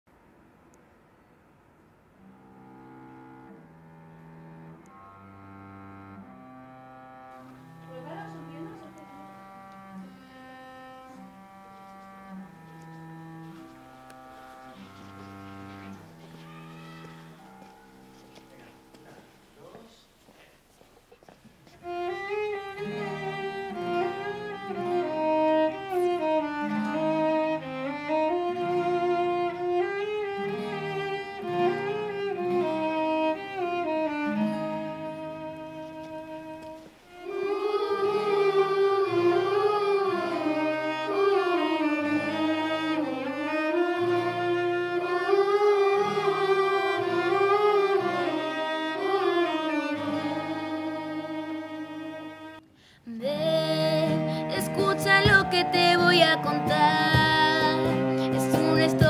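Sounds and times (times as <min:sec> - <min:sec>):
cello and bass notes: 0:02.1 - 0:19.7, 0:21.7 - 0:52.7, 0:53.3 - 0:59.0
violin melody: 0:02.2 - 0:19.7, 0:21.6 - 0:59.0.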